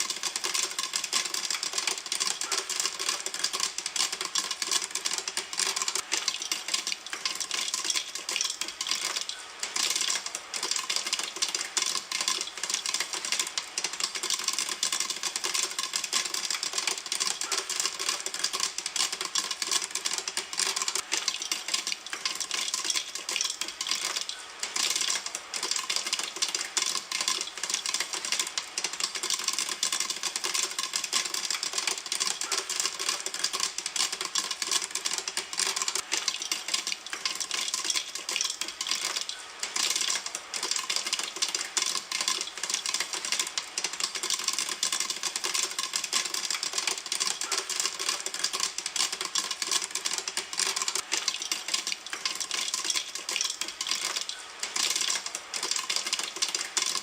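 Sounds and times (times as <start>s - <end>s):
popcorn popping in a pan: 0.0s - 57.0s.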